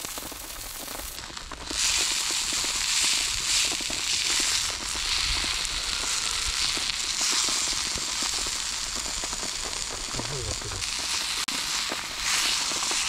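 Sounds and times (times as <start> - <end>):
crackling pops: 0.0 - 13.0
meat sizzling in oil: 0.0 - 13.0.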